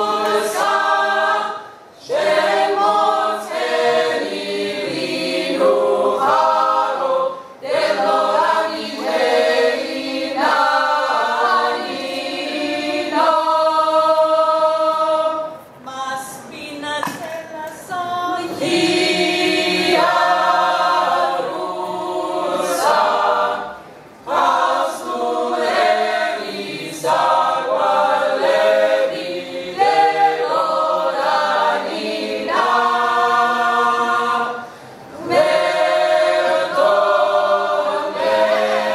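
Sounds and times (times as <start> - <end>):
mixed choir singing a cappella: 0.0 - 15.7, 17.9 - 38.9.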